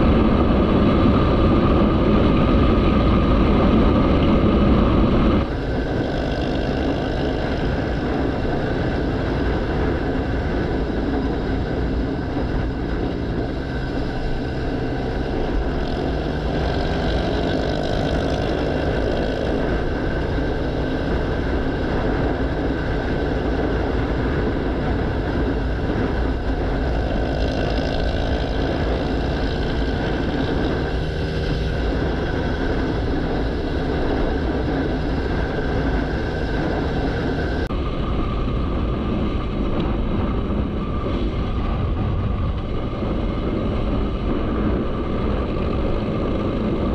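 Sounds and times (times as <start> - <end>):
motorcycle engine roaring: 0.0 - 46.9
wind rush: 0.0 - 46.9.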